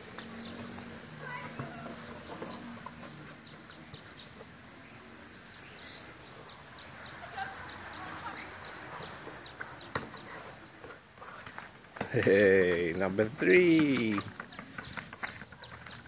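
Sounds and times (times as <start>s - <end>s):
birds chirping: 0.0s - 16.0s
faint outdoor noise: 0.0s - 16.0s.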